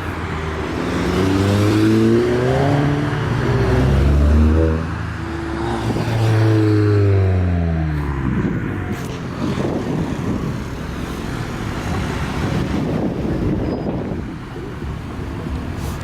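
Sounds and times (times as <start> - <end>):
loud rumble of car engines: 0.0 - 16.0
car passing by: 0.3 - 13.2.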